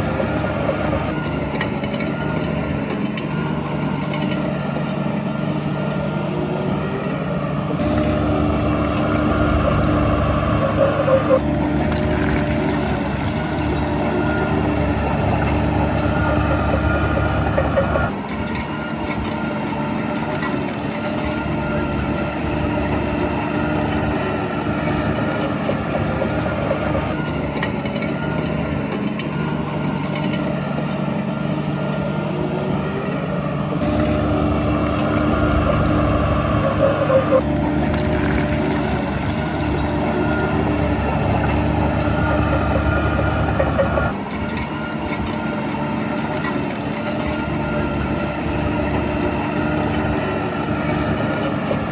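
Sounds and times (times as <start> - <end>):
heavy diesel engine rumbling: 0.0 - 51.9.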